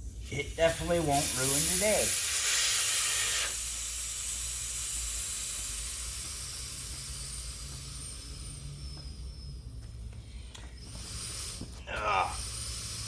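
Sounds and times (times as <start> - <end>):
air hissing out of tire: 0.0 - 13.0.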